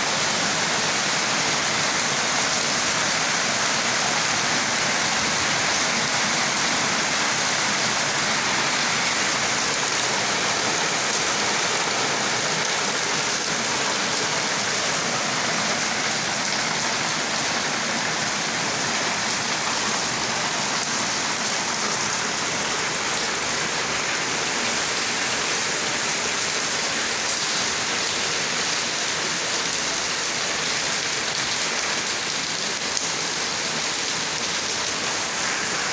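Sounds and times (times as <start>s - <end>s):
rain falling steadily: 0.0s - 35.9s.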